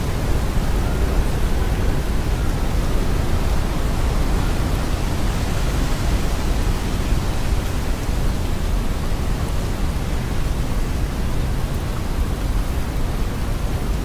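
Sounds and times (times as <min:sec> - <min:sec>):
hurricane wind buffeting microphone: 0:00.0 - 0:14.0.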